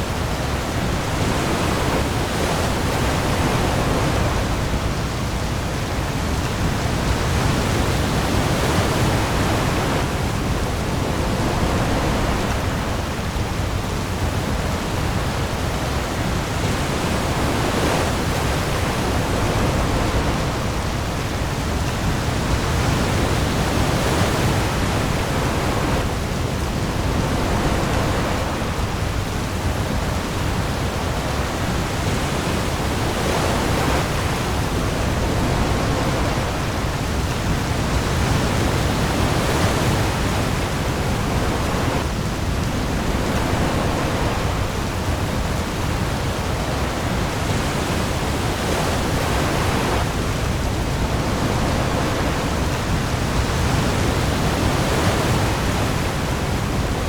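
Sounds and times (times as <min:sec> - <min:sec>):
heavy rain on the sea: 0:00.0 - 0:57.0
waves swelling: 0:00.0 - 0:57.0.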